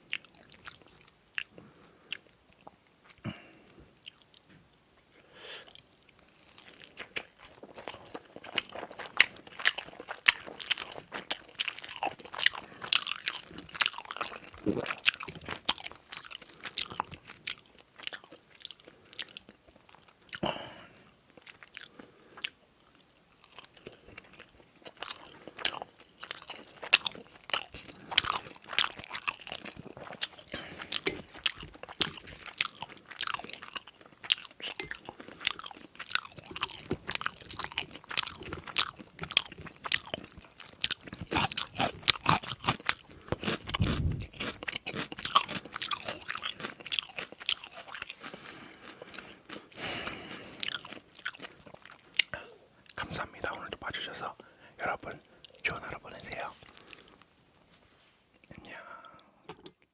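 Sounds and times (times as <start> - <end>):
chewing and biting: 0.0 - 3.3, 5.6 - 20.6, 21.4 - 53.8.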